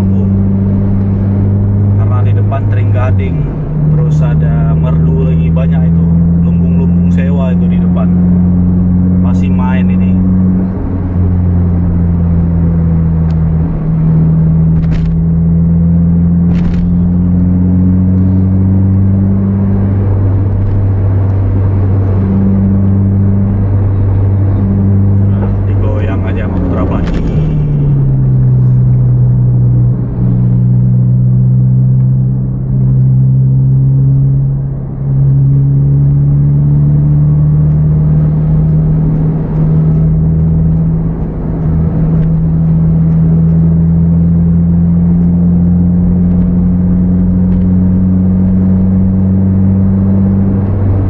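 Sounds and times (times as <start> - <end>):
car engine droning: 0.0 - 51.0
road noise: 0.0 - 51.0.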